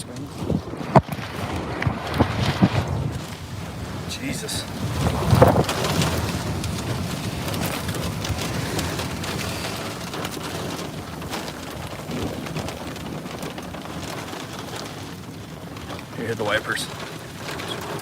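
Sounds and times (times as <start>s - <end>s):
raindrops striking roof: 0.0s - 18.0s
heavy rain hiss: 1.6s - 18.0s.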